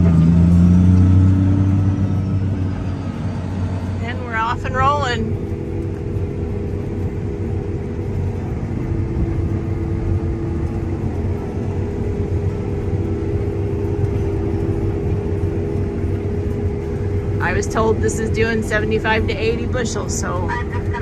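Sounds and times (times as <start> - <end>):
harvester engine droning: 0.0 - 21.0.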